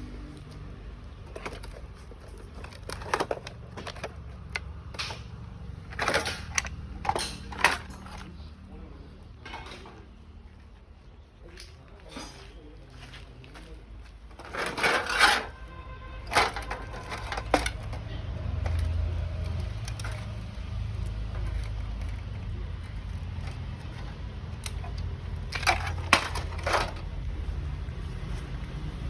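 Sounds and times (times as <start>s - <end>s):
hard objects clattering: 0.4s - 10.4s, 11.4s - 27.6s.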